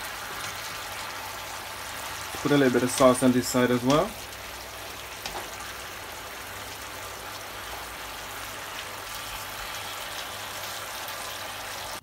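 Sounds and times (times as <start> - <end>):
sauce bubbling in frying pan: 0.0 - 12.0.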